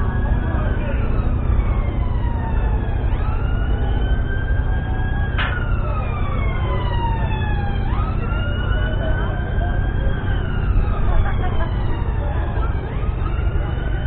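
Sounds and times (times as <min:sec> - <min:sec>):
siren wailing: 0:00.0 - 0:14.0
steady low rumble: 0:00.0 - 0:14.0.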